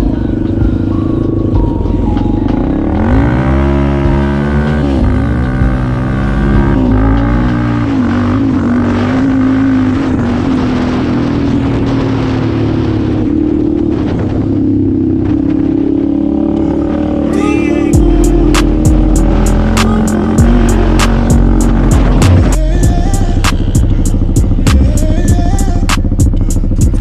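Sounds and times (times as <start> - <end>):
quad engine revving: 0.0 - 27.0.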